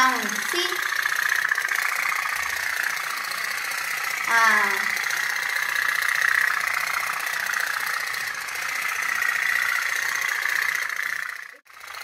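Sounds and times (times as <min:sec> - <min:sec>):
toy steam engine pulsing: 0:00.0 - 0:12.0.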